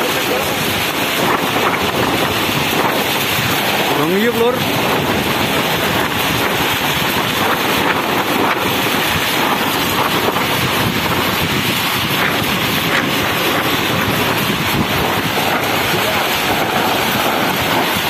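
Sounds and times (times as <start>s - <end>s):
heavy rain falling: 0.0s - 18.0s
strong wind gusting on microphone: 0.0s - 18.0s.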